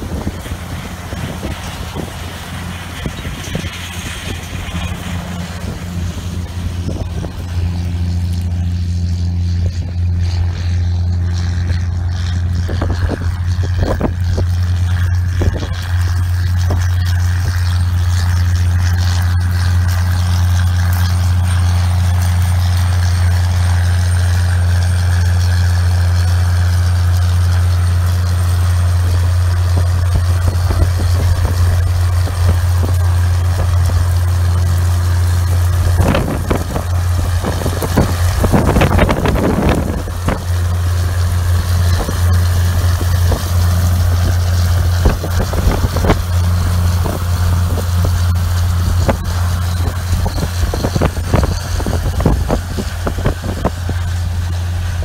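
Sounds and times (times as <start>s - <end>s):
rough crackling noise: 0.0s - 55.0s
tractor diesel engine droning: 0.0s - 55.0s.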